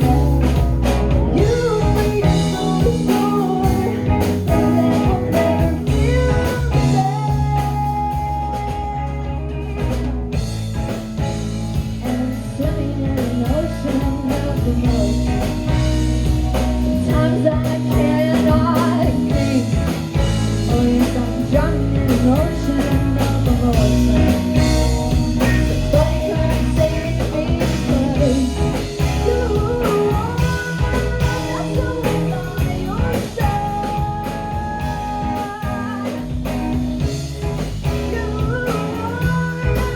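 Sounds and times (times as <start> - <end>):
bass guitar: 0.0 - 39.9
drum kit: 0.0 - 39.9
electric guitar bending notes: 0.0 - 39.9.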